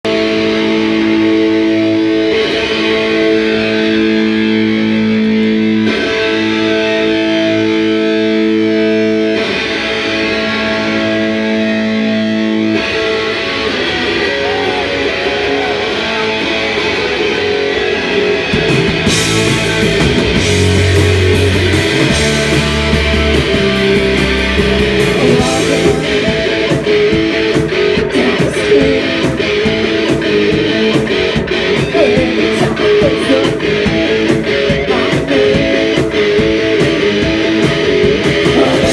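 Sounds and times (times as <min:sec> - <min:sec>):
bass guitar: 0:00.0 - 0:38.9
drums: 0:00.0 - 0:38.9
electric guitar chords: 0:00.0 - 0:38.9.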